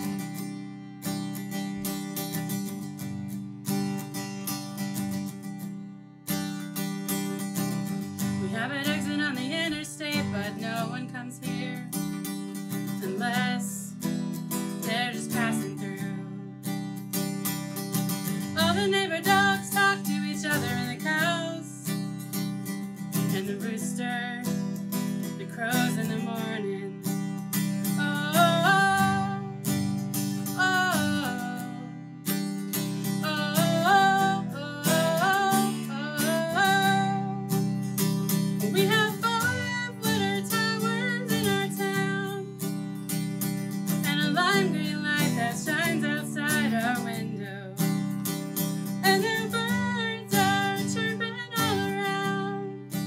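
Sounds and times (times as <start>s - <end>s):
strummed acoustic guitar: 0.0s - 53.0s
woman singing: 7.1s - 16.9s, 17.9s - 42.8s, 43.5s - 53.0s.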